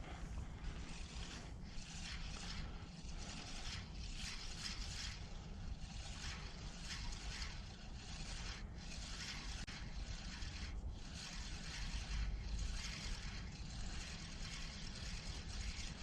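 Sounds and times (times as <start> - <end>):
fishing reel rasping: 0.0 - 16.0.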